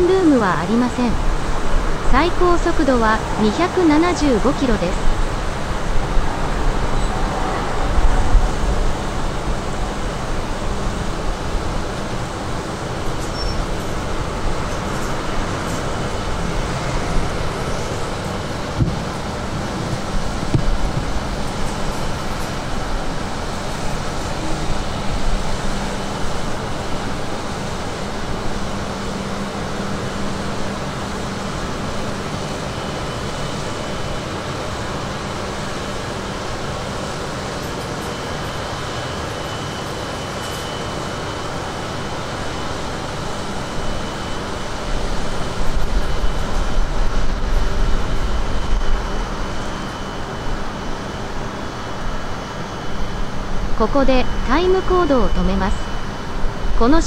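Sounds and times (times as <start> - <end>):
train wash machine noise: 0.0 - 57.0.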